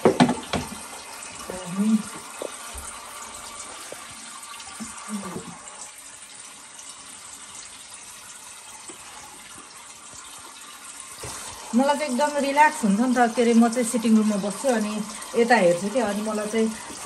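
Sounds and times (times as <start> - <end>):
water trickling into fountain basin: 0.0 - 17.0.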